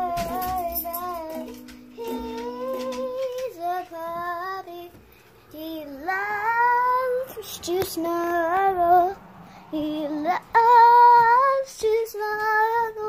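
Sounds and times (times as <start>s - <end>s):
girl singing long held notes: 0.0s - 13.0s.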